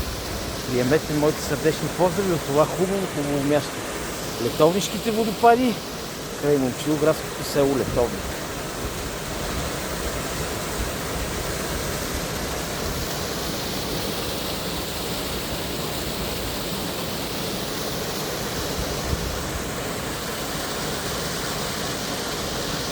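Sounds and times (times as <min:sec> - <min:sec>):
waterfall rushing over rocks: 0:00.0 - 0:22.9.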